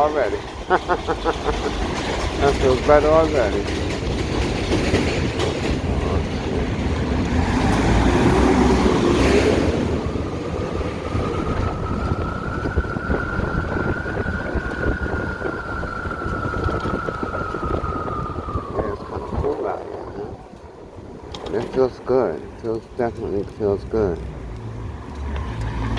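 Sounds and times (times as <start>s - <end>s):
wind rushing over microphone: 0.0s - 25.9s.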